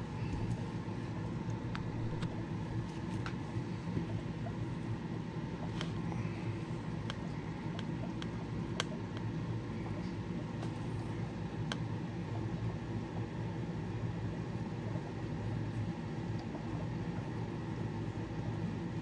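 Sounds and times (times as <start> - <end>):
aquarium equipment humming: 0.0 - 19.0.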